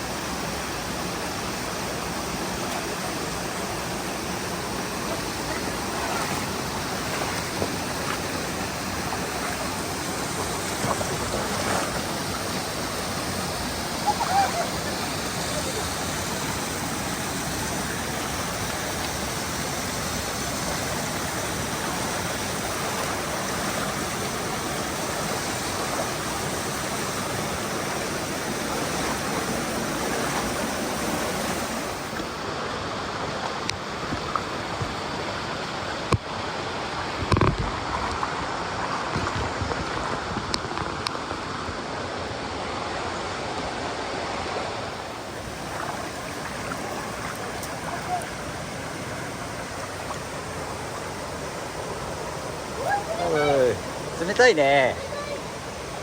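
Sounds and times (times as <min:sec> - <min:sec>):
stream flowing over boulders: 0:00.0 - 0:56.0.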